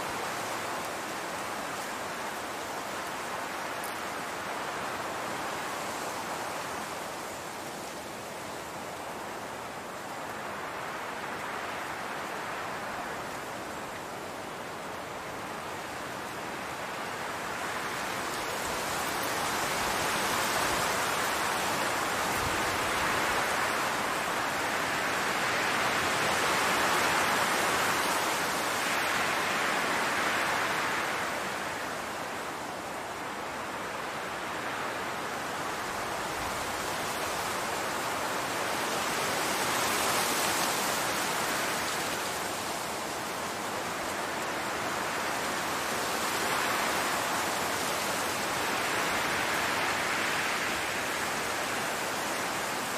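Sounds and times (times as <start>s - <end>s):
wind through tall grass: 0.0s - 52.9s.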